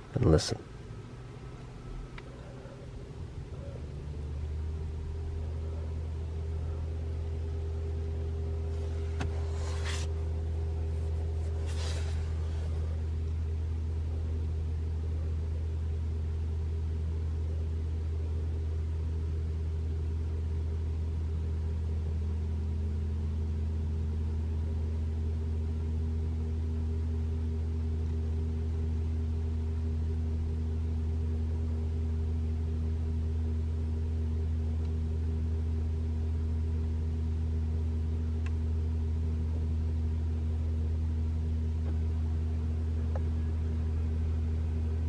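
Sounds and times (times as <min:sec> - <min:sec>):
compressor humming: 0:00.0 - 0:26.4, 0:27.1 - 0:45.0.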